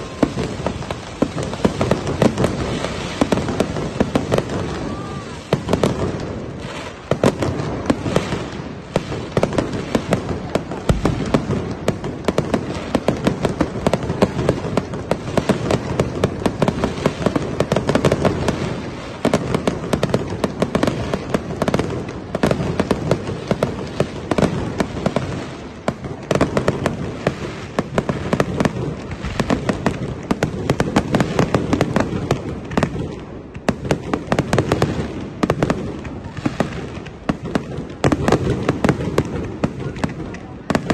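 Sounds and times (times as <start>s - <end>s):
fireworks crackling and banging: 0.0s - 40.9s.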